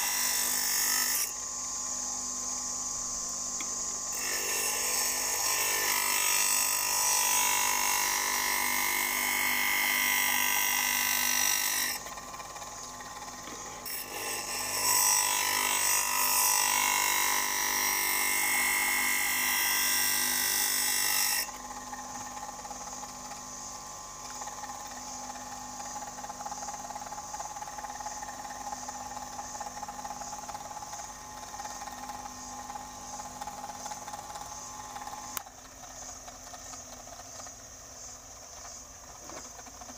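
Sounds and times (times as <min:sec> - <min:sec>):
high-pitched blade grinding: 0:00.0 - 0:36.1
steady motor hum: 0:00.0 - 0:39.9.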